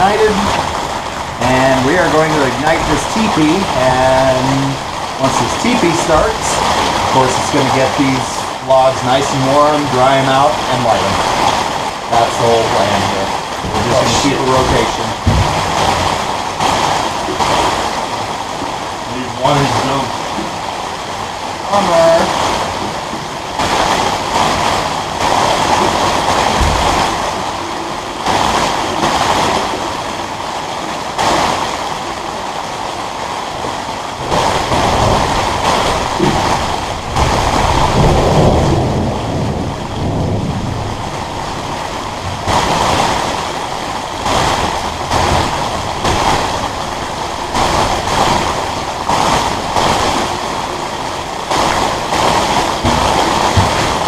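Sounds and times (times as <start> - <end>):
heavy rain on metal: 0.0 - 54.0.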